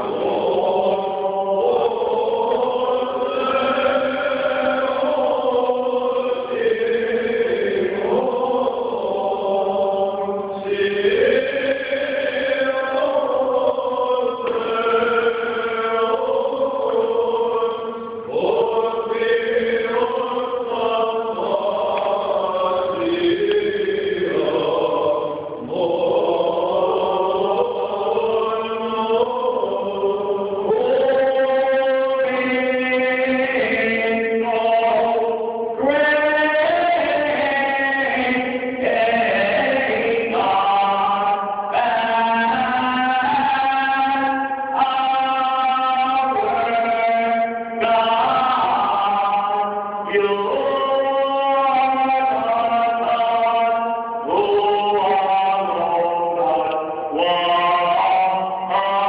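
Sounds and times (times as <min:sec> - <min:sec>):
several voices chanting: 0:00.0 - 0:59.0.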